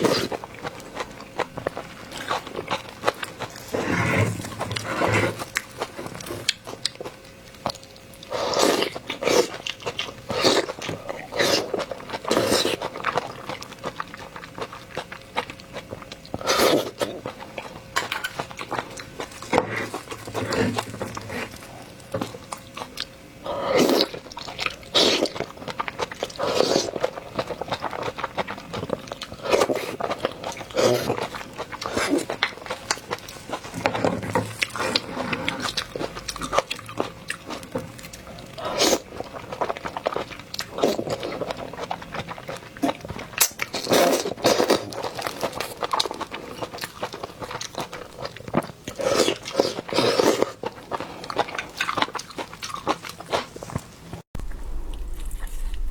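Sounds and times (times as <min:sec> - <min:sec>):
wet chewing and crunching: 0:00.0 - 0:55.9.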